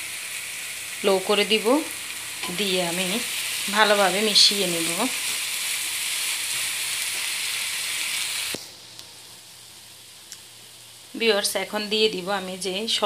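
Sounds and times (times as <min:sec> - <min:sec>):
noodles sizzling in frying pan: 0:00.0 - 0:13.0.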